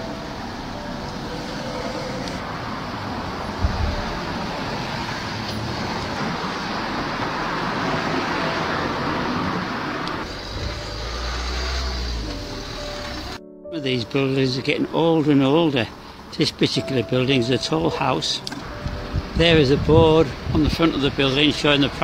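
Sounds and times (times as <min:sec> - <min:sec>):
passing vehicles rushing: 0:00.0 - 0:13.4, 0:14.1 - 0:22.0.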